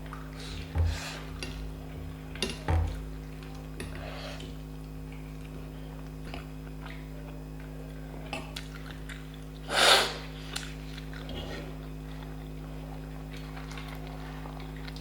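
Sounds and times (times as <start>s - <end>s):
soft chewing: 0.0s - 9.7s, 10.3s - 15.0s
low electrical hum: 0.0s - 15.0s.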